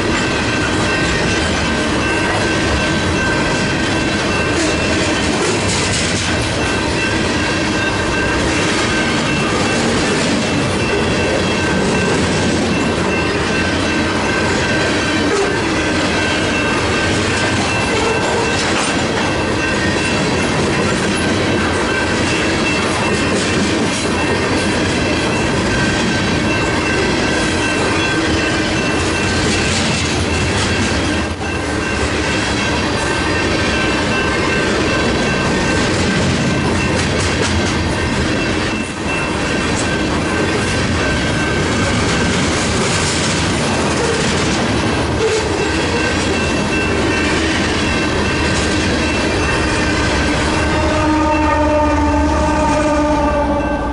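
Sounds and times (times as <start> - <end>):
high ringing tone: 0.0 - 5.4, 6.6 - 23.6, 24.2 - 37.2, 37.9 - 42.3, 45.6 - 53.9
train wheels clattering on rails: 0.0 - 53.4
train rumble: 0.0 - 53.9.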